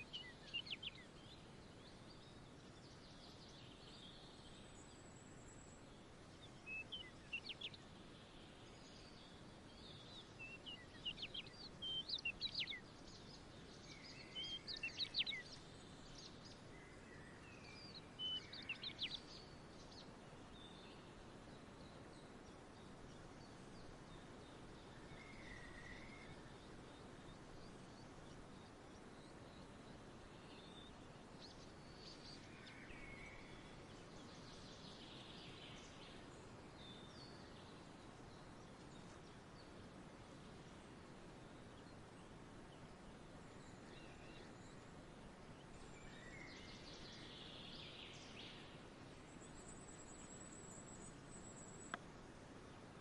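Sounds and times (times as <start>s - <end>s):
faint outdoor hiss: 0.0s - 53.0s
songbirds chirping: 0.0s - 53.0s.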